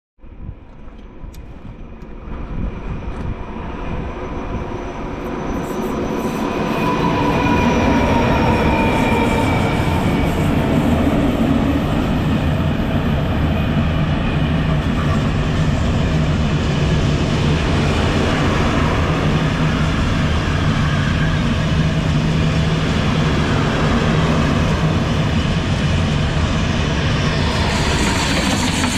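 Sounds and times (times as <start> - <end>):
diesel locomotive engines: 0.3 - 28.9
freight wagons rumbling on rails: 4.6 - 28.9.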